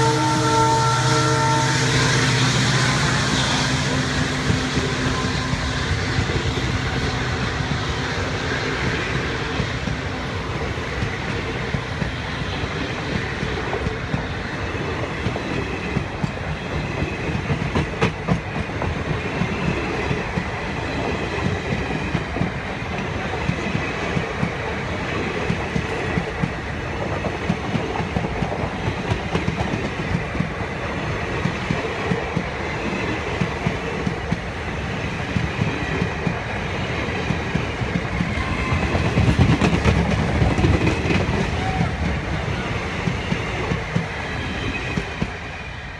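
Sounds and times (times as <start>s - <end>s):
train coaches rumbling past: 0.0s - 45.9s.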